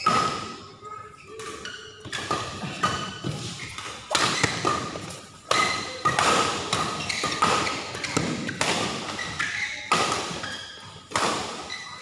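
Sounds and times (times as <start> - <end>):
rackets hitting shuttlecock: 0.0 - 0.8, 1.4 - 12.0
sneakers squeaking: 0.0 - 12.0.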